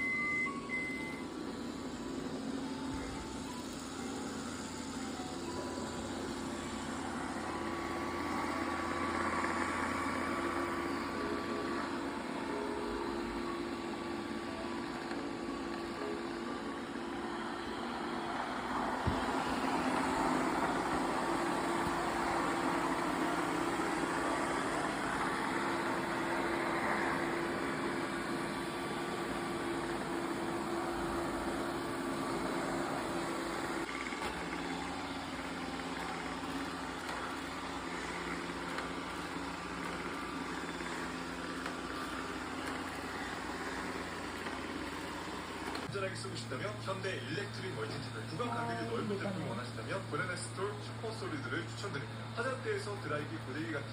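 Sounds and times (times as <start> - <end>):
robot vacuum humming and whirring: 0.0 - 45.9, 46.5 - 53.9.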